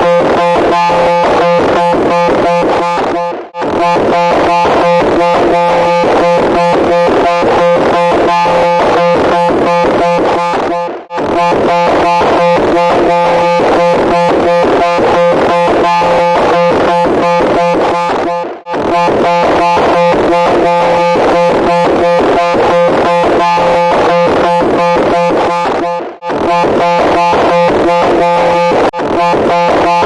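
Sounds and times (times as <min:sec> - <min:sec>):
harsh pulsing buzz: 0:00.0 - 0:30.0.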